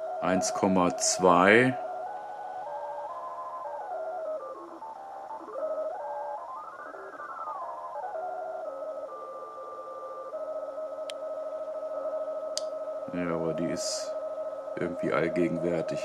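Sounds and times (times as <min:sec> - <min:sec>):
radio beat tones gliding in pitch: 0:00.0 - 0:16.0.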